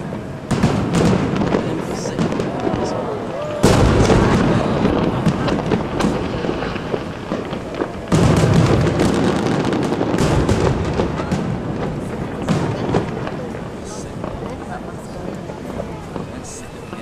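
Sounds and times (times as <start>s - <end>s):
firework crackling: 0.0s - 17.0s
firework shells bursting: 0.0s - 17.0s.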